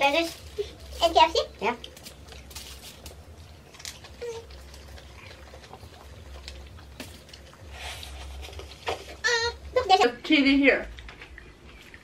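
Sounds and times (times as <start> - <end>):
people chewing food: 0.0 - 10.1, 10.8 - 12.0.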